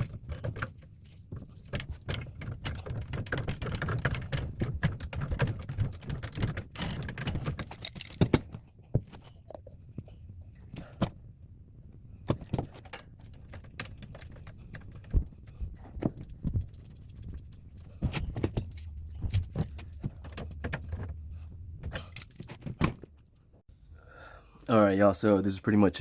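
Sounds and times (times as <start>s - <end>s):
tools clicking and clattering: 0.0s - 11.3s, 12.2s - 23.3s.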